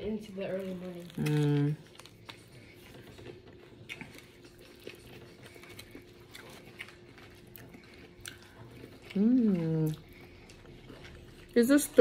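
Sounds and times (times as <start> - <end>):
close-up chewing: 0.0 - 12.0.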